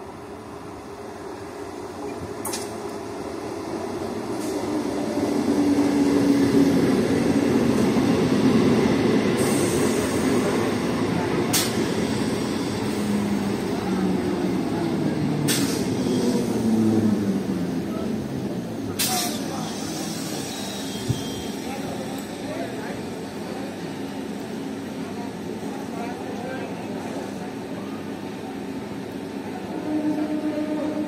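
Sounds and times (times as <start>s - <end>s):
train running along rails: 0.0s - 31.0s.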